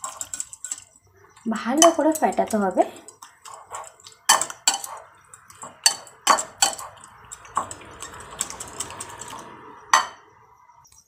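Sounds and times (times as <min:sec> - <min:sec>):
wet churning: 0:00.0 - 0:09.7
utensil clinking against glass bowl: 0:00.0 - 0:10.2.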